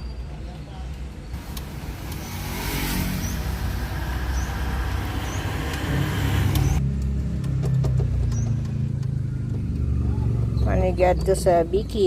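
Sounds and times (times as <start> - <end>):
wind and road noise: 0.0 - 12.0
vehicle engine hum: 0.7 - 12.0.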